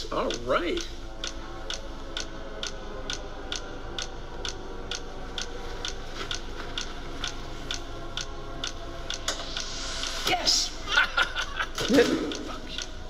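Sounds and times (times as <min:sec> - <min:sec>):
clock ticking: 0:00.0 - 0:13.0
faint musical drone: 0:00.0 - 0:13.0.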